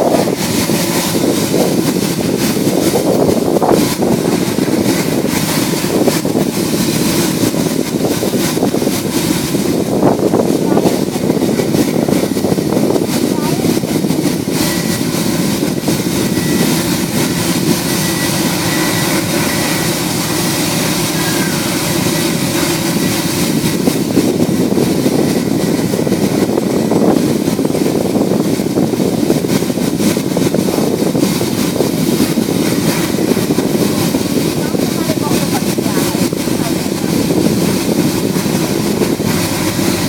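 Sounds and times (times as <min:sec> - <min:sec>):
diesel locomotive engine rumbling: 0:00.0 - 0:40.0.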